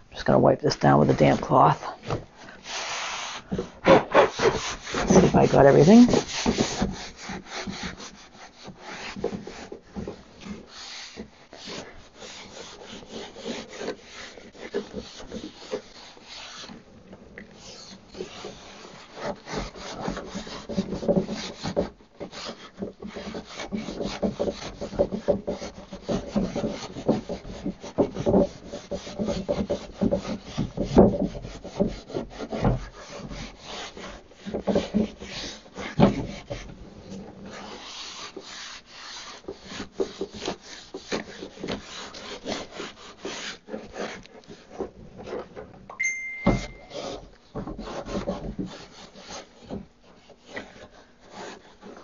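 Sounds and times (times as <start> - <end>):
damp cloth wiping wood: 0.2 - 45.4.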